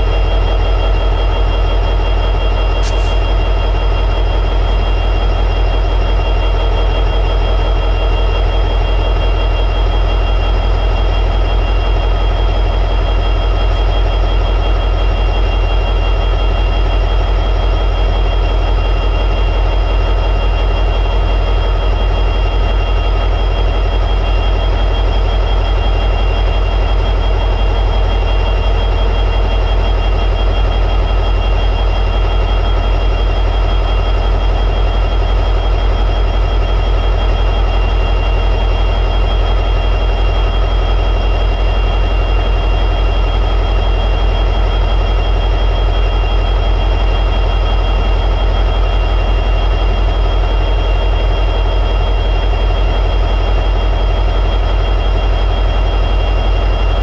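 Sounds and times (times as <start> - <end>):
diesel locomotive engine idling: 0.0 - 57.0
high engine whine: 0.0 - 57.0.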